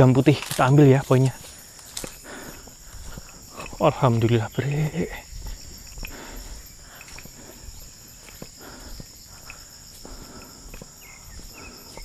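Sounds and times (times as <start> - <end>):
footsteps through vegetation: 0.0 - 12.0
high-pitched insect chorus: 0.0 - 12.0.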